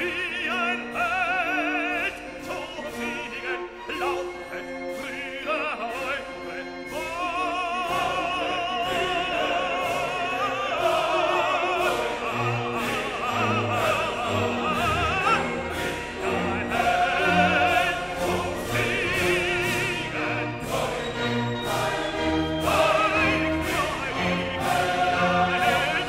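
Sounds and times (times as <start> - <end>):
operatic singing: 0.0 - 26.0
orchestral music: 0.0 - 26.0.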